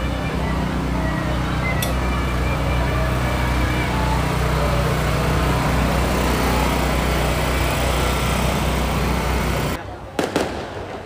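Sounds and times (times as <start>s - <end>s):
engine droning: 0.0s - 10.3s.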